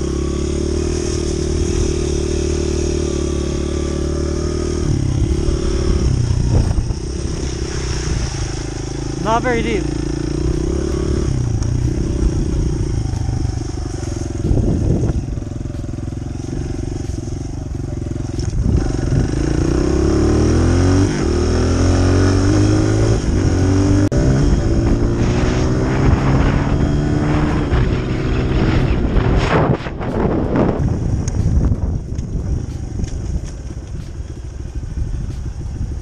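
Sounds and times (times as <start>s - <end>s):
dirt bike engine revving: 0.0s - 34.1s.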